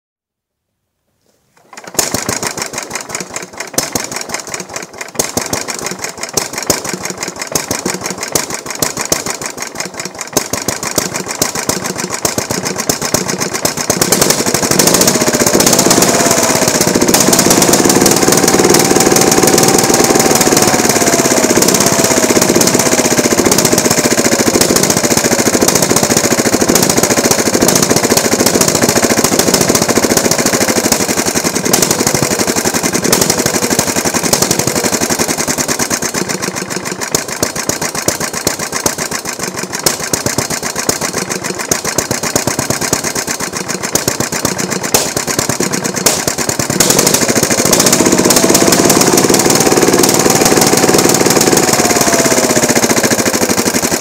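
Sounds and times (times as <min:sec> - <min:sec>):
mower engine running: 0:01.6 - 0:54.0.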